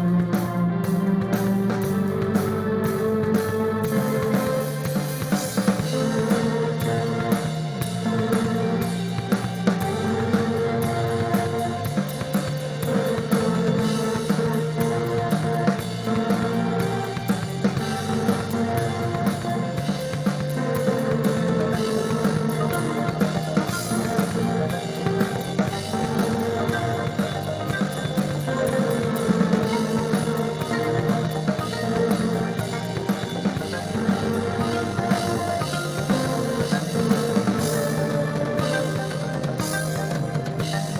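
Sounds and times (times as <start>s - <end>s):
bass guitar: 0.0s - 40.9s
drum kit beat: 0.0s - 40.9s
guitar: 0.0s - 40.9s
psychedelic rock band playing: 0.0s - 40.9s.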